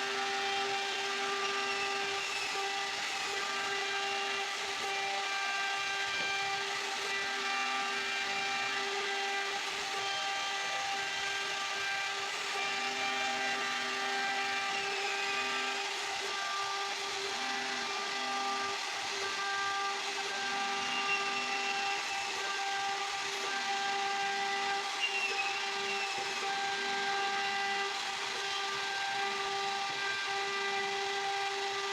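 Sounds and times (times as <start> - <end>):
router spindle whining: 0.0 - 31.9.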